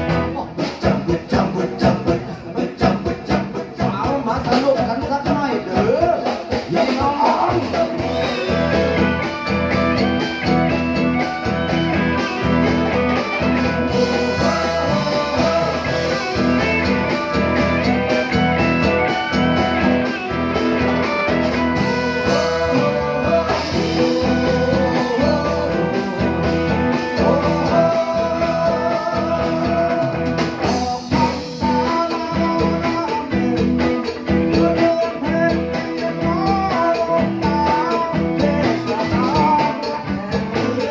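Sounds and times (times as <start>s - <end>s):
percussion beat: 0.0s - 40.9s
person singing: 0.0s - 40.9s.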